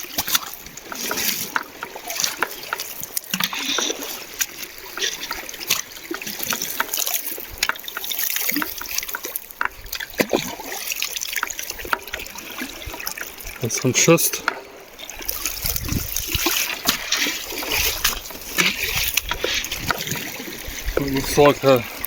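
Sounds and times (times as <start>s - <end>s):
water trickling over stones: 0.0s - 22.0s.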